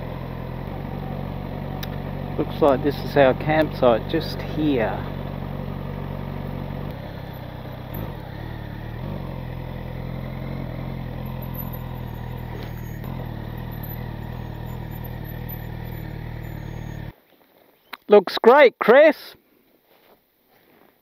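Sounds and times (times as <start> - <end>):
motorcycle engine running at low revs: 0.0 - 17.1.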